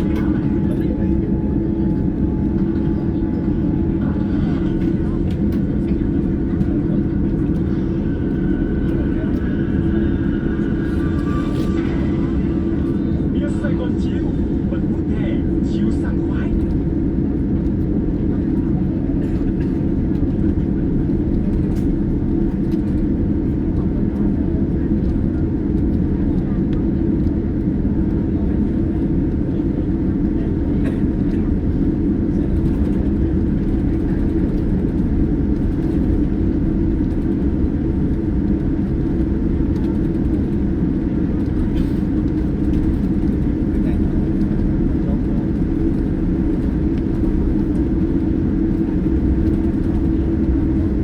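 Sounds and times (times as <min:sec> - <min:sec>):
airliner cabin engine rumble: 0:00.0 - 0:51.0.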